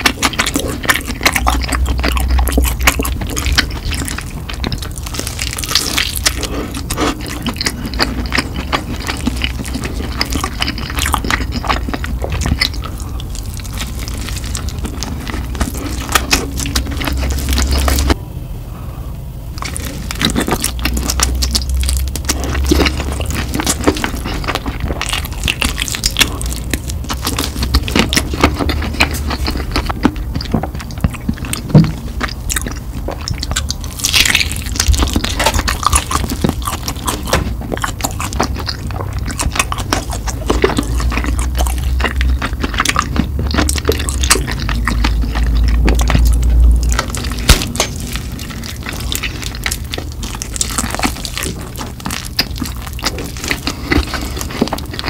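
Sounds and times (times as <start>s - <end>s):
crunching bites: 0.0s - 18.2s, 19.6s - 55.0s
wet chewing: 0.0s - 18.2s, 19.6s - 55.0s.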